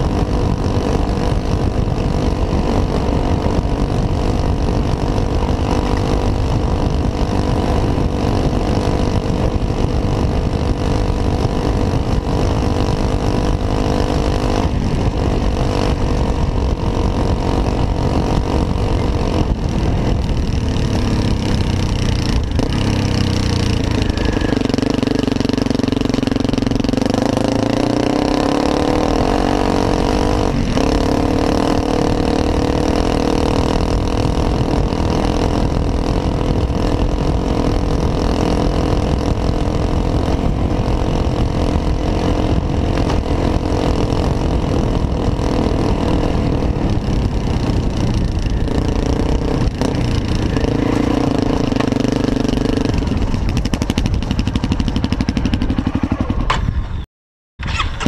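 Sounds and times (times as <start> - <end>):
motorcycle engine running: 0.0 - 57.0, 57.6 - 58.0
riding noise rumble: 0.0 - 57.0.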